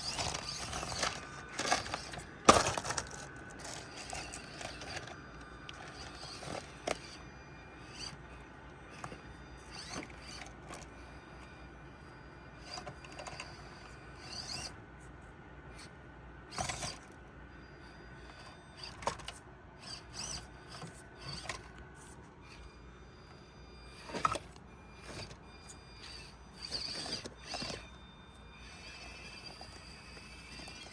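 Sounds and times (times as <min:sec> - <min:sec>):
electric motor and gear whine: 0:00.0 - 0:30.9.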